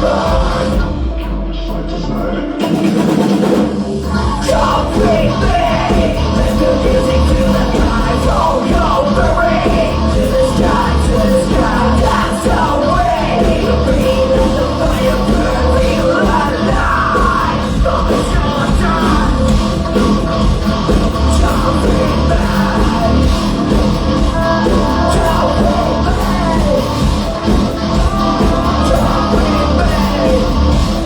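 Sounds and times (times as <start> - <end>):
live rock band playing: 0.0 - 1.2, 2.5 - 31.0
person singing: 0.0 - 31.0.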